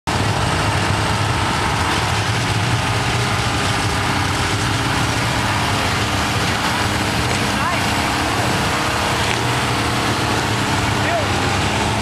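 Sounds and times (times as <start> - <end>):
diesel engine running at low revs: 0.1 - 12.0.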